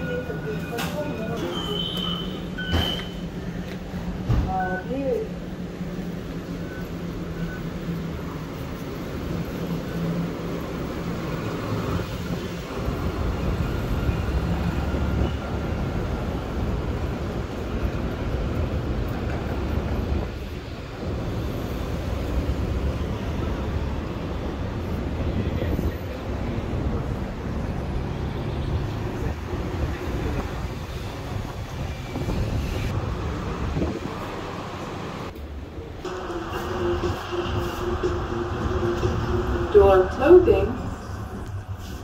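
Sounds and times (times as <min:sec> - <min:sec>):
low rumble of vehicles: 0:00.0 - 0:42.0.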